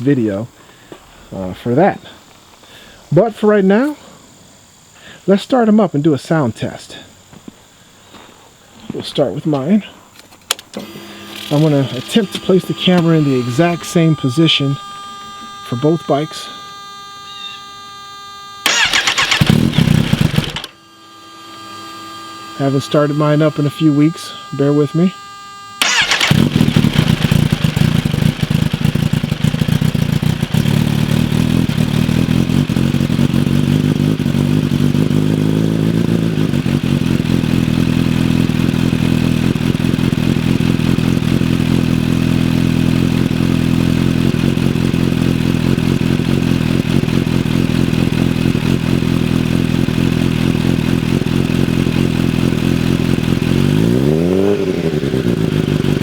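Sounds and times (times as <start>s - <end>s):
motorcycle engine starting and idling: 9.1s - 56.0s.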